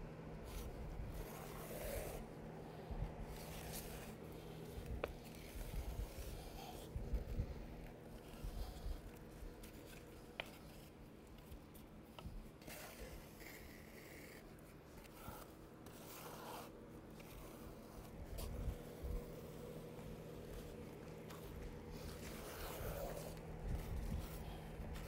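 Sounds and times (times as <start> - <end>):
squeegee scraping wet coating: 0.5 - 25.0.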